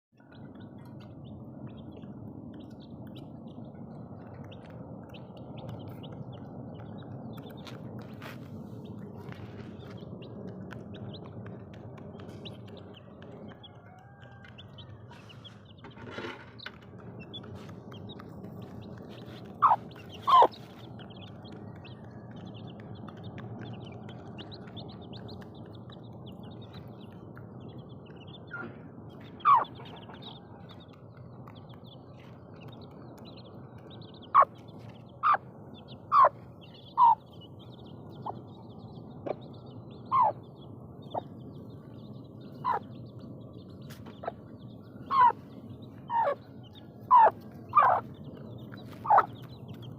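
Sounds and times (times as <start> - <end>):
chickens calling: 0.5 - 49.9.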